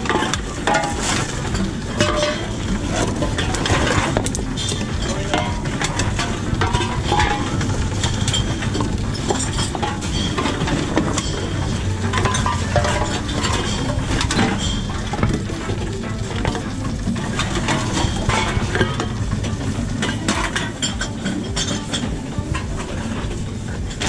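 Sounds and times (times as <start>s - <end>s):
cans and bottles clattering: 0.0s - 24.0s.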